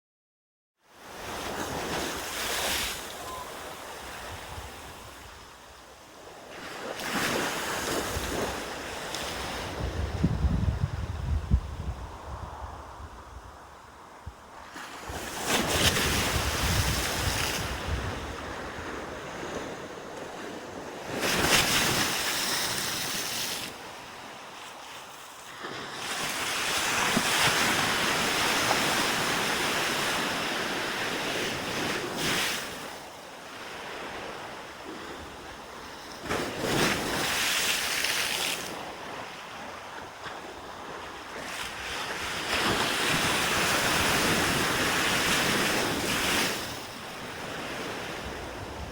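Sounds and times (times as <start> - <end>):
sea waves breaking on beach: 1.0 - 10.1, 14.6 - 48.9.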